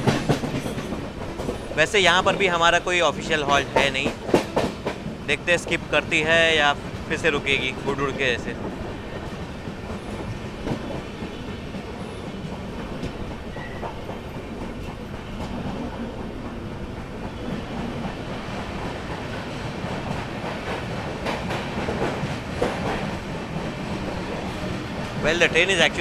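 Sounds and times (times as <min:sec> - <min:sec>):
rail clicks: 0:00.0 - 0:26.0
train wheels rumbling on rail: 0:00.0 - 0:26.0.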